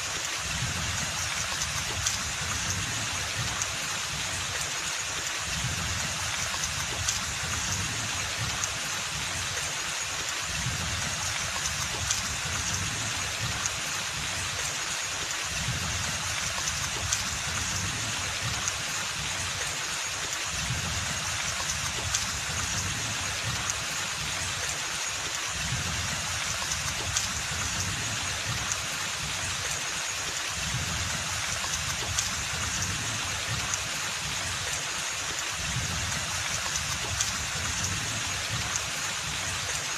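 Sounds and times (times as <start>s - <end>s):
rain on foliage: 0.0s - 39.9s
water drip: 0.0s - 39.9s.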